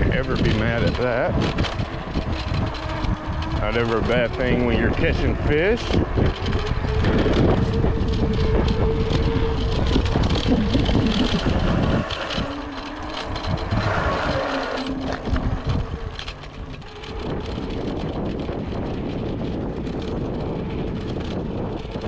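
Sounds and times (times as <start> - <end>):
electric motor whine: 0.0 - 22.0
tyre noise: 0.0 - 22.0
wind buffeting microphone: 0.0 - 22.0.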